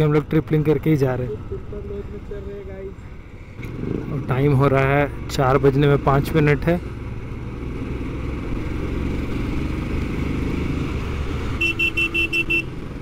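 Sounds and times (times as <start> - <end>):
motorcycle engine and road noise: 0.0 - 13.0.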